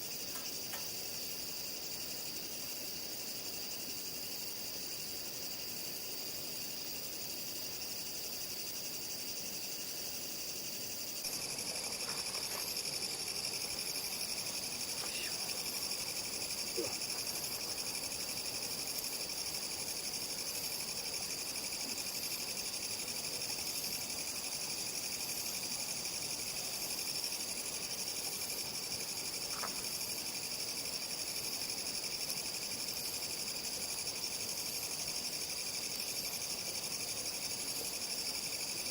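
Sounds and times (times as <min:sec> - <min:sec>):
crickets chirping: 0:00.0 - 0:38.9
high insect trill: 0:00.0 - 0:38.9.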